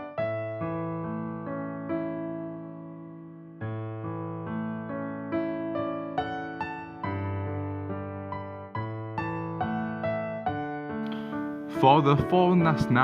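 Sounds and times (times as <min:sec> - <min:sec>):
soft electric piano chords: 0:00.0 - 0:13.0.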